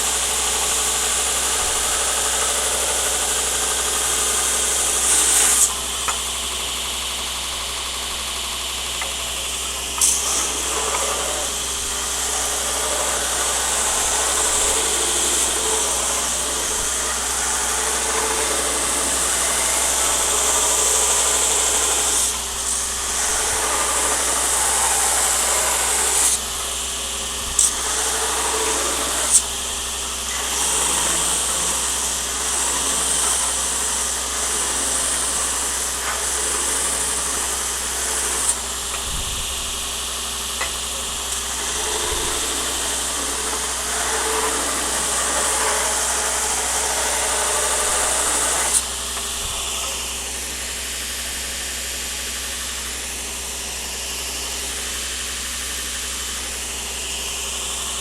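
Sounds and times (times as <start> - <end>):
workshop equipment rushing noise: 0.0 - 58.0.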